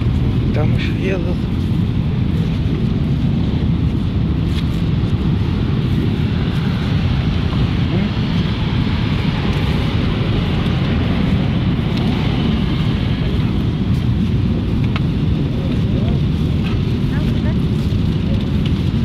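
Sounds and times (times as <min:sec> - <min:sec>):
motorcycle engines running: 0:00.0 - 0:19.0
wind noise on microphone: 0:00.0 - 0:19.0.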